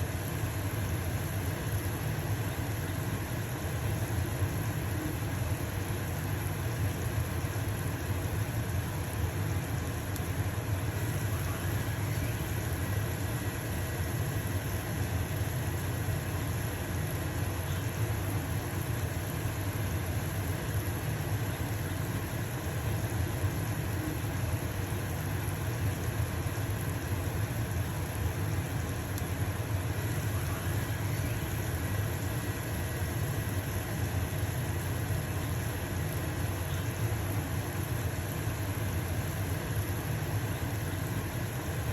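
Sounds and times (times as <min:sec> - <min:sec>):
exhaust fan humming: 0:00.0 - 0:41.9.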